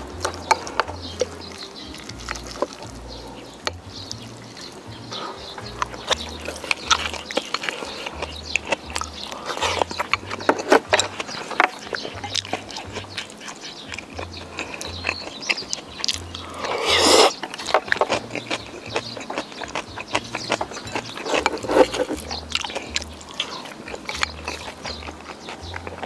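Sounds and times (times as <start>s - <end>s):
person chewing with clicks: 0.0s - 26.0s.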